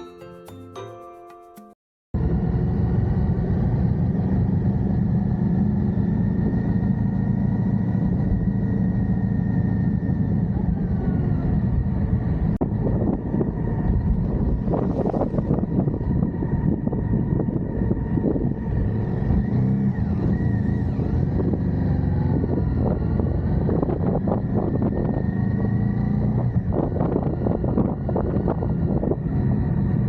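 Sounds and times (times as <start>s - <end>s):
motorcycle engine running: 2.2s - 30.0s.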